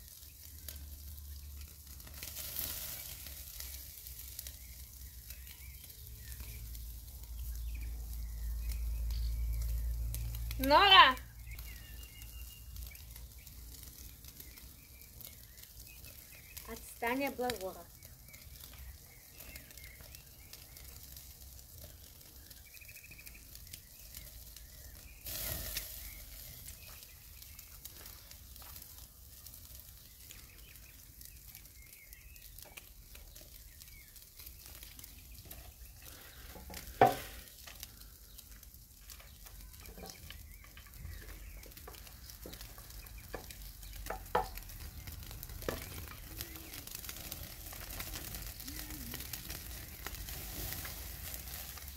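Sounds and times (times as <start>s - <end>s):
steaks sizzling on a grill: 0.0s - 51.9s.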